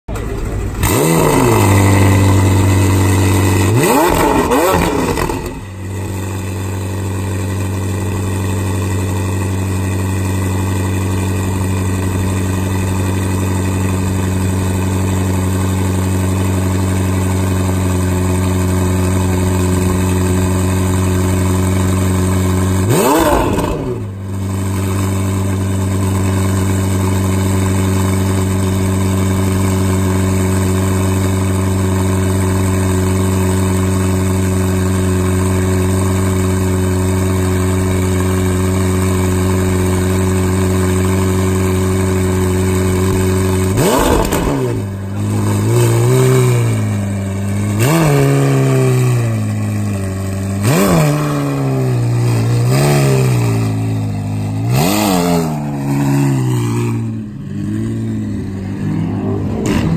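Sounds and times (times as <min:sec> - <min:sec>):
sports car engine revving and idling: 0:00.1 - 0:59.9.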